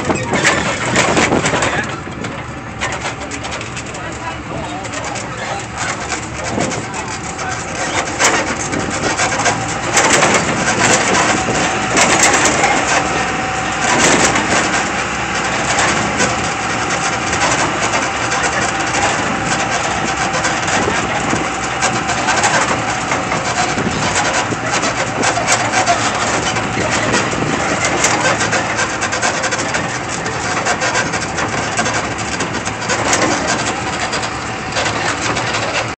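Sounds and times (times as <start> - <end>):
clicks and rattles: 0.0 - 36.0
tram engine rumbling: 0.0 - 36.0.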